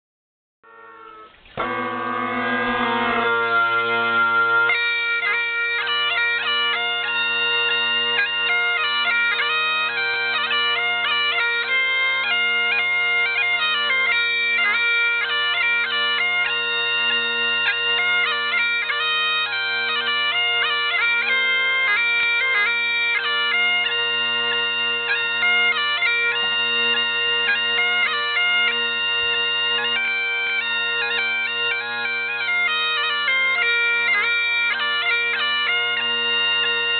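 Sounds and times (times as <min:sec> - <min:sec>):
bagpipe chanter melody: 0:00.7 - 0:36.9
bagpipe drones: 0:00.7 - 0:36.9.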